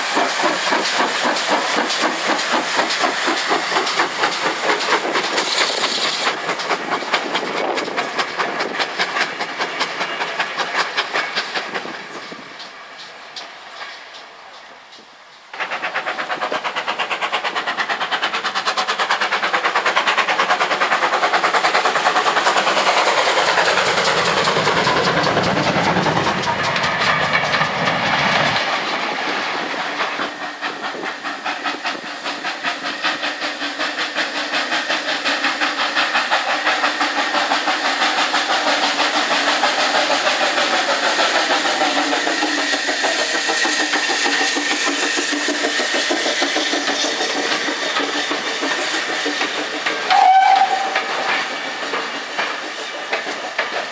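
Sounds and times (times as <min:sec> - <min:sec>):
steam engine exhaust beats: 0:00.0 - 0:53.9
steam hissing: 0:00.0 - 0:53.9
train wheels clicking over rail joints: 0:00.0 - 0:53.9.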